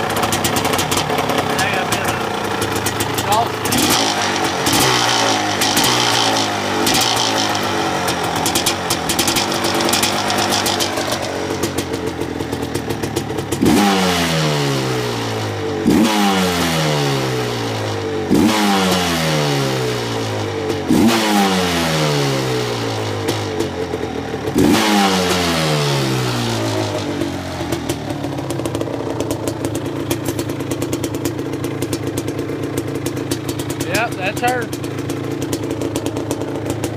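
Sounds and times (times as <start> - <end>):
two-stroke engine idling and revving: 0.0 - 36.9.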